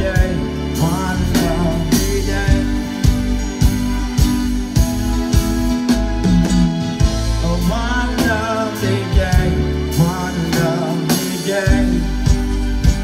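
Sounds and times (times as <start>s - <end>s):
live band music: 0.0s - 13.0s.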